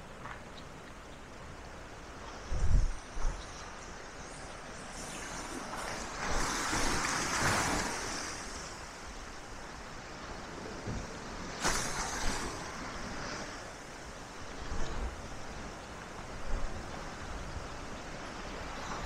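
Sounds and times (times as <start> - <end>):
waves breaking on shore: 0.0 - 19.0.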